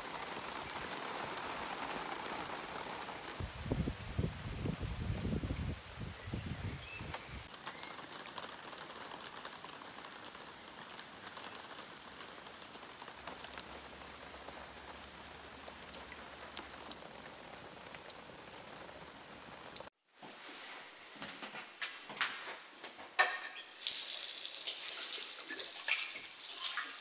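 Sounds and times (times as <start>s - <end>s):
light rain on leaves and water: 0.0s - 20.0s, 23.8s - 27.0s.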